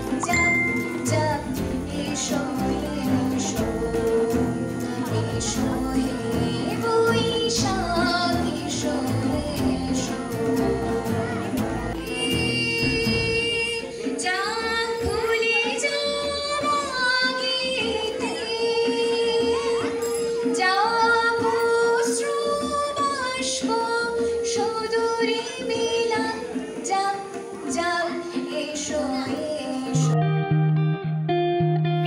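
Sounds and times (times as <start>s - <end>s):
woman singing into microphone: 0.0s - 30.3s.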